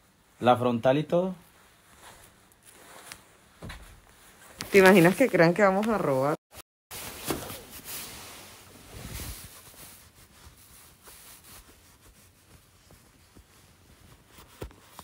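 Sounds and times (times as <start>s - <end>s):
clothing rustling against phone: 1.3s - 6.2s, 6.9s - 15.0s.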